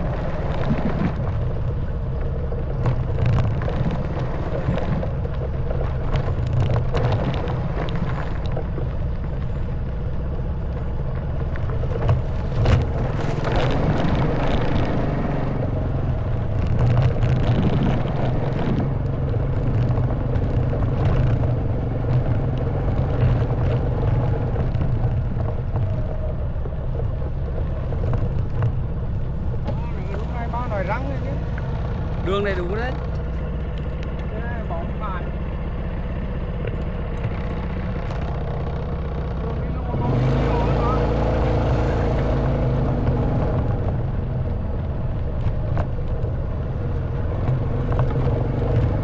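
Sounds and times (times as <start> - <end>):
motorbike engine running: 0.0 - 49.0
rattles and knocks on rough track: 0.0 - 49.0.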